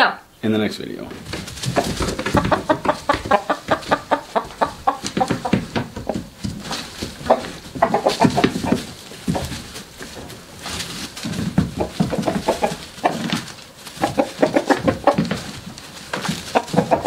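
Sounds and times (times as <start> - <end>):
chickens clucking: 0.7 - 17.0.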